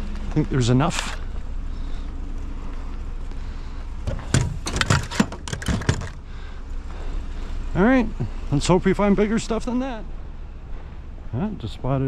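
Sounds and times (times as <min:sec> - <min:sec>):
vehicle idling: 0:00.0 - 0:12.0.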